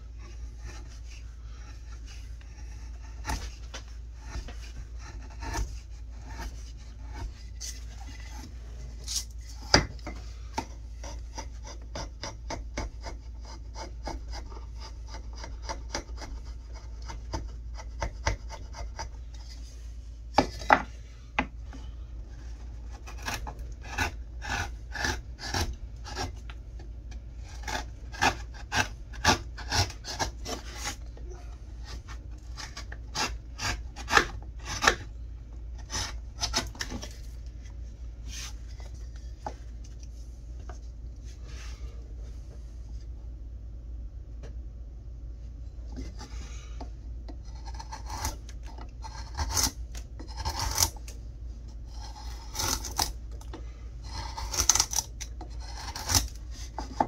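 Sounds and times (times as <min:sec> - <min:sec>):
chisel scraping wood: 0:00.1 - 0:21.0, 0:21.7 - 0:35.1, 0:35.8 - 0:37.3, 0:45.9 - 0:57.0.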